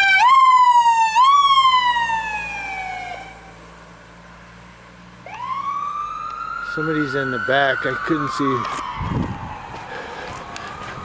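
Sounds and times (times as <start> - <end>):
ambulance siren wailing: 0.0 - 3.6, 5.2 - 11.0.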